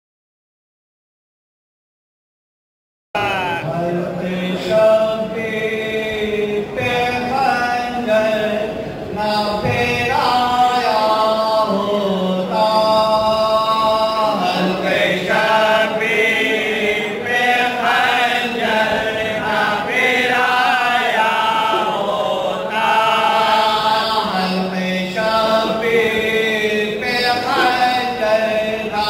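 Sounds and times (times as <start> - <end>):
man singing lament: 3.2 - 29.0
men's voices singing: 3.2 - 29.0.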